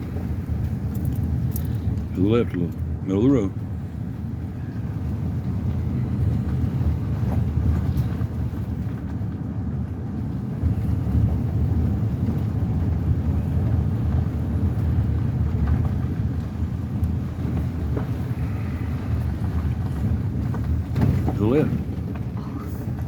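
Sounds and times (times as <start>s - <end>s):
truck engine rumble: 0.0s - 23.0s
tyres on dirt road: 0.0s - 23.0s.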